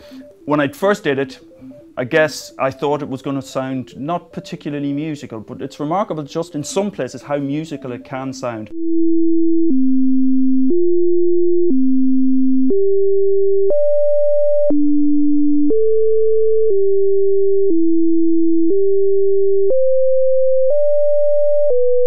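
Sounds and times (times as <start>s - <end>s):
sine tone notes: 0.0s - 5.2s, 7.8s - 22.0s.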